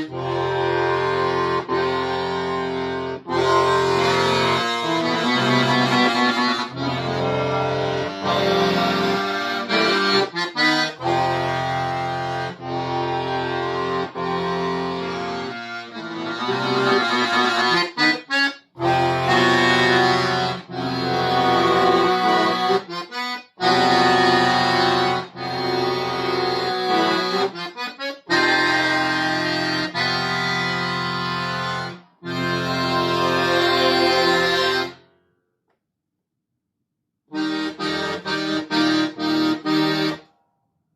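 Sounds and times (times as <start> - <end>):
solo accordion: 0.0 - 35.1, 37.3 - 40.3.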